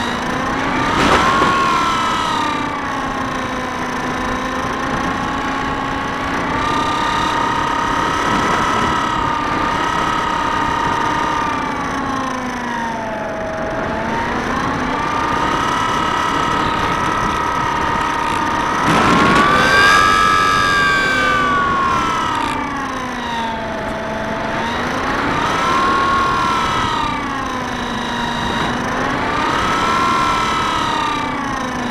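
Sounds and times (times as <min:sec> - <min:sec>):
electric motor propeller whining: 0:00.0 - 0:31.9.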